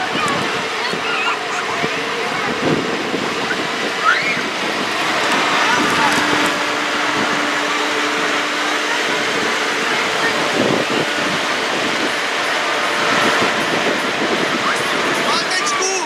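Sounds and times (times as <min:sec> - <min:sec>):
tractor diesel engine under load: 0:00.0 - 0:16.0
tyres churning through mud: 0:00.0 - 0:16.0.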